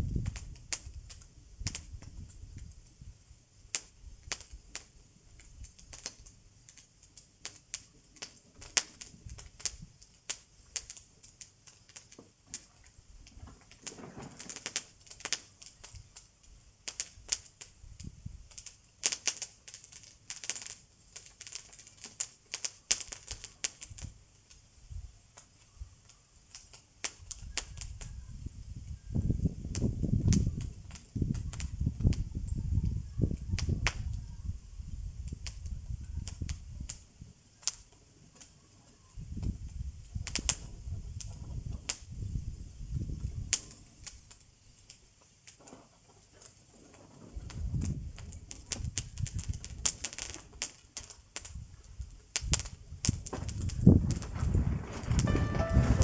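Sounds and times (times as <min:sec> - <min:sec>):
bonfire crackling and popping: 0:00.0 - 0:32.6, 0:33.3 - 0:34.1, 0:35.0 - 0:38.6, 0:39.2 - 0:56.0.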